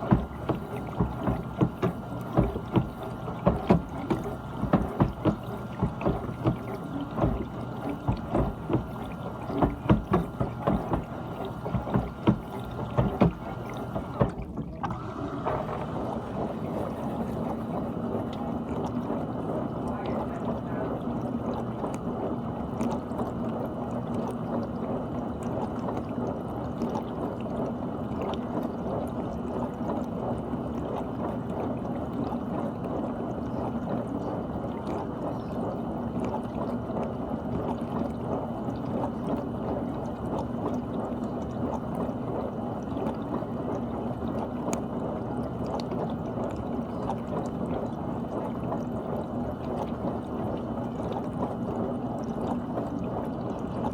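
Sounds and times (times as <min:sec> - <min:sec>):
pump humming: 0:00.0 - 0:53.9
water spraying and sloshing: 0:00.0 - 0:53.9.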